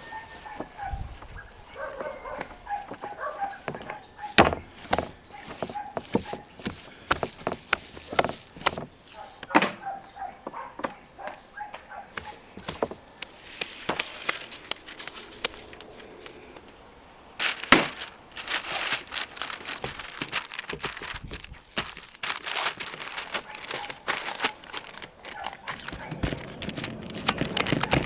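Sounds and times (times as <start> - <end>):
birds chirping: 0.0 - 21.2, 23.4 - 28.0.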